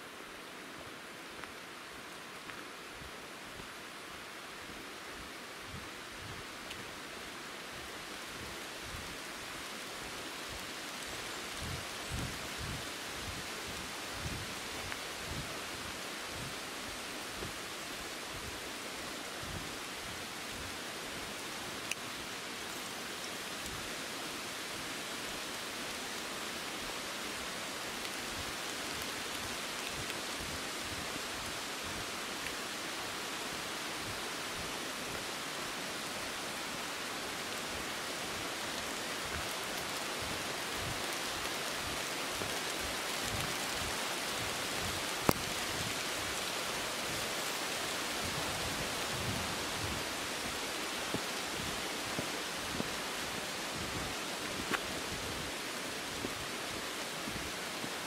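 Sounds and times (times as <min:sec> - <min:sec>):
stream rapids rushing: 0:00.0 - 0:58.0.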